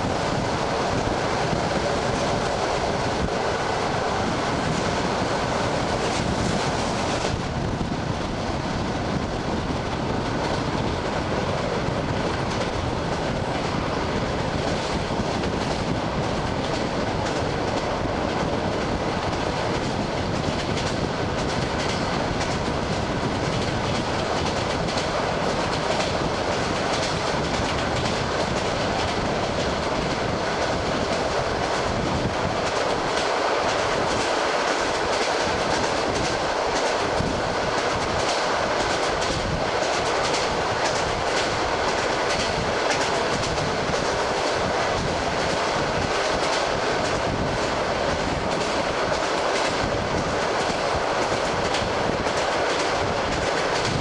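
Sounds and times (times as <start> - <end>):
train rushing at speed: 0.0 - 54.0
train wheels clickety-clack: 0.0 - 54.0.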